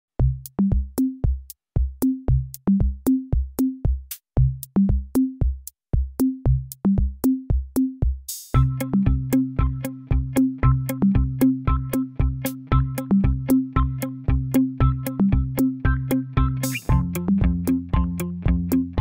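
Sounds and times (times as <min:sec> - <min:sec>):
electronic drum machine beat: 0:00.2 - 0:19.0.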